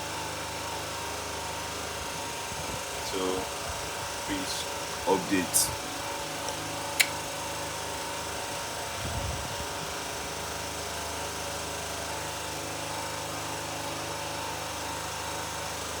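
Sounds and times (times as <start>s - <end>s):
mechanical hum with hiss: 0.0s - 16.0s.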